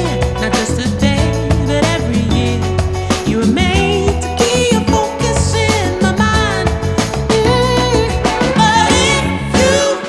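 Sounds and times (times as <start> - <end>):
upbeat song with singing: 0.0 - 10.0.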